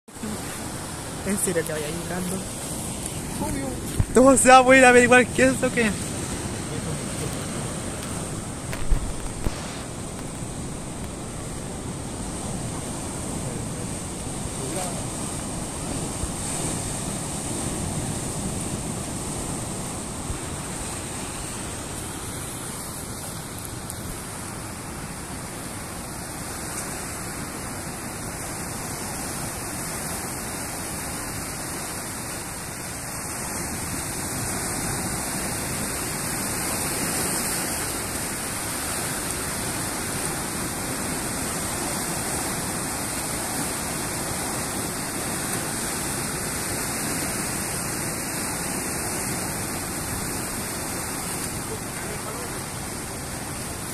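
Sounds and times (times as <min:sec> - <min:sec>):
ocean surf breaking over rocks: 0:00.1 - 0:53.9.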